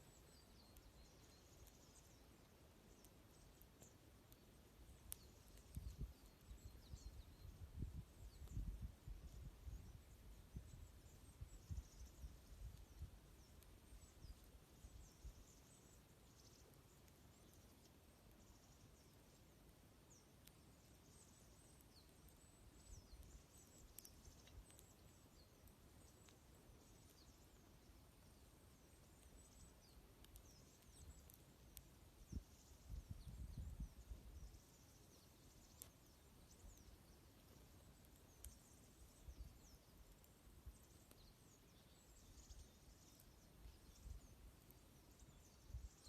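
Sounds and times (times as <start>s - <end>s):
campfire snaps: 0.0s - 46.0s
small songbirds chirping: 0.0s - 46.0s.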